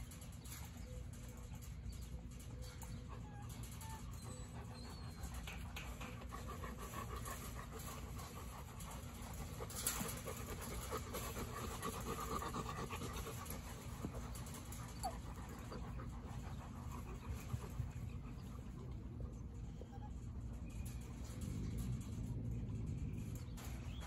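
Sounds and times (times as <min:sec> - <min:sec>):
dogs panting: 0:00.0 - 0:21.5.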